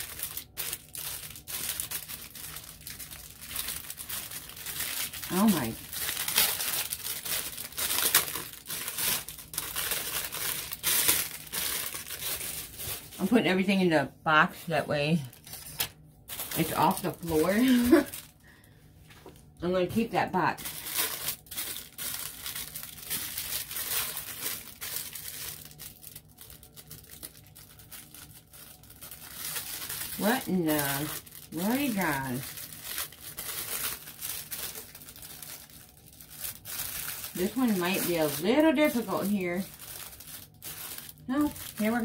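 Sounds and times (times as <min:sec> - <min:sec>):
plastic bag crinkling: 0:00.0 - 0:13.7, 0:14.5 - 0:42.0.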